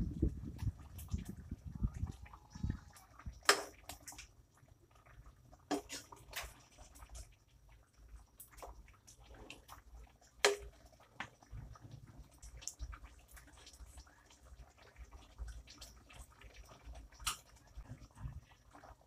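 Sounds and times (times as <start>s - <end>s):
sauce bubbling in a pan: 0.0s - 19.0s.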